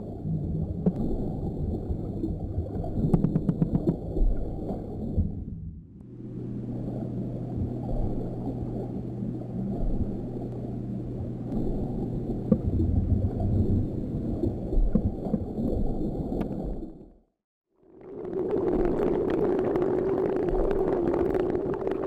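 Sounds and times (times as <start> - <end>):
low hum: 0.0 - 22.0
underwater water rumble: 0.0 - 22.0.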